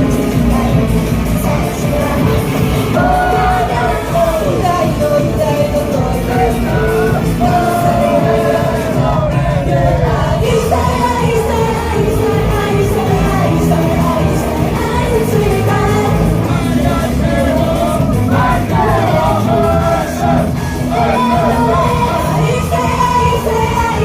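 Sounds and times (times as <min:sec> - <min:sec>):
group singing pop song: 0:00.0 - 0:24.0
loud backing track: 0:00.0 - 0:24.0.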